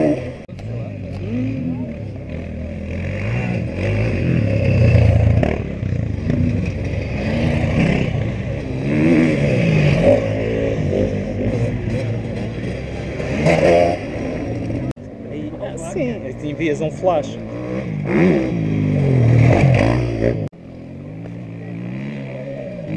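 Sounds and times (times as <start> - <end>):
motorcycle engines revving: 0.0 - 22.9.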